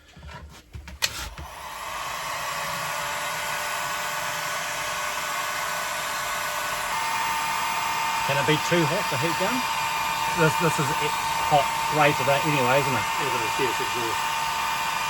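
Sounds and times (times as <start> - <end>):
heat gun fan blowing: 1.0 - 15.0.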